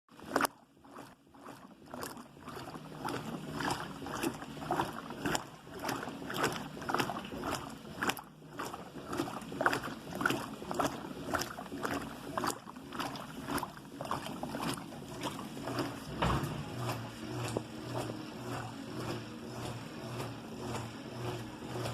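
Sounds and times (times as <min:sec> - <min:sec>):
washing machine sloshing: 0:00.1 - 0:21.9.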